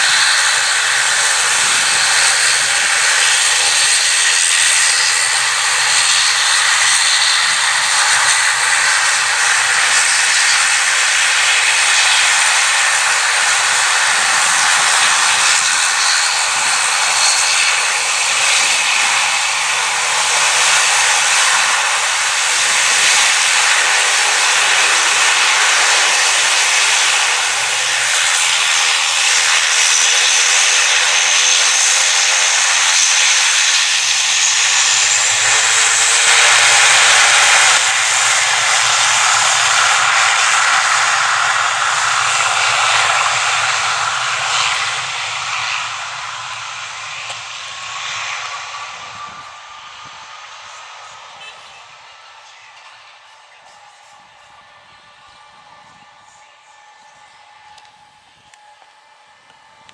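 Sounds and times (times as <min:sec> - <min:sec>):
faint high whine: 0:00.0 - 0:59.9
jet airliner engines running: 0:00.0 - 0:59.9.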